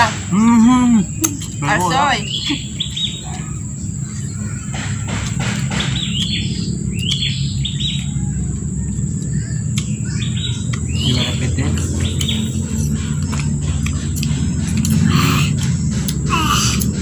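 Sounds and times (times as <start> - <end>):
birds chirping: 0.0 - 17.0
high-pitched whine: 0.0 - 17.0
steady low rumble: 0.0 - 17.0.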